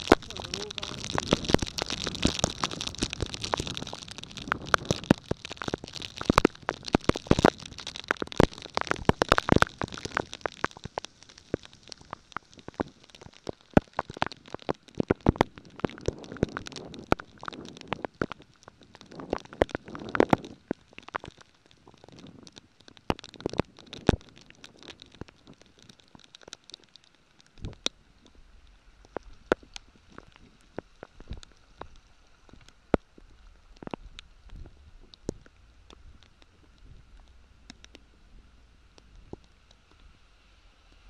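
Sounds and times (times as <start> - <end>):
wind rumbling on microphone: 0.0 - 26.4, 27.5 - 41.0
rain hissing: 0.0 - 41.0
raindrops cracking on microphone: 0.0 - 41.0.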